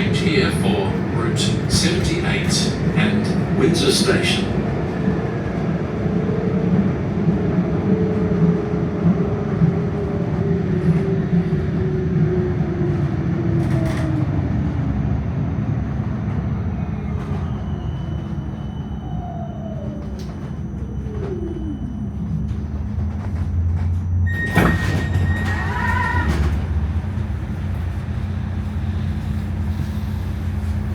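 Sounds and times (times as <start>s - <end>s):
tram motor whine: 0.0s - 30.9s
tram rumble: 0.0s - 30.9s.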